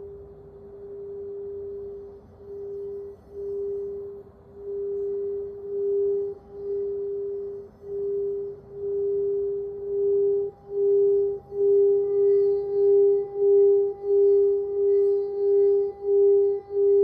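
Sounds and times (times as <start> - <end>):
crystal singing bowl tone: 0.0 - 17.0.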